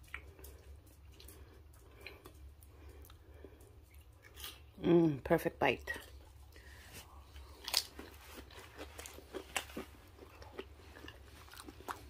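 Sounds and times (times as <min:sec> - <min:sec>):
person chewing crunchy chips: 0:00.0 - 0:04.8, 0:06.5 - 0:12.0.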